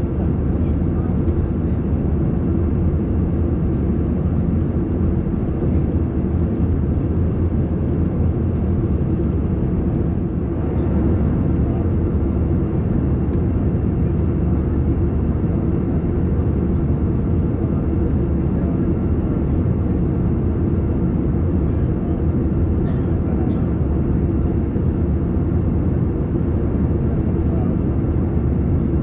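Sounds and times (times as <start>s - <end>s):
airliner engines and airflow rumble: 0.0s - 29.0s.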